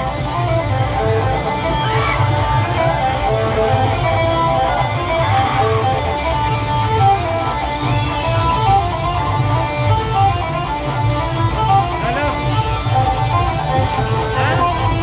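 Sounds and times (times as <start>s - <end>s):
guitar-like lead melody: 0.0s - 15.0s.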